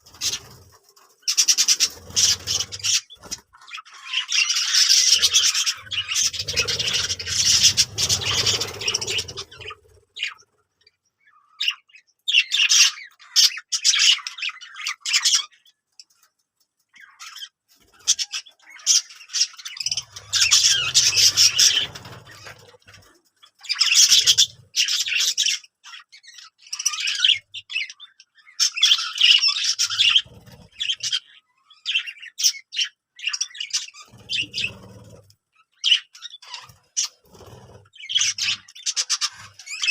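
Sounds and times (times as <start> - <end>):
budgerigars chattering and squawking: 0.0 - 16.2, 17.0 - 39.9.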